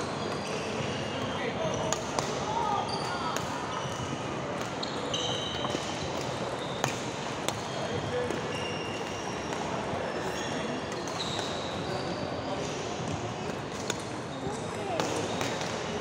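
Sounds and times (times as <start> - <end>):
shoes squeaking on court floor: 0.0 - 16.0.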